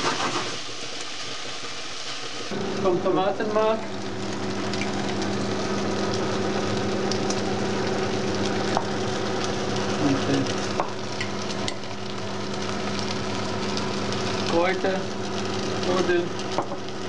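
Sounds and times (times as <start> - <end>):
food sizzling in a pot: 0.0 - 17.0.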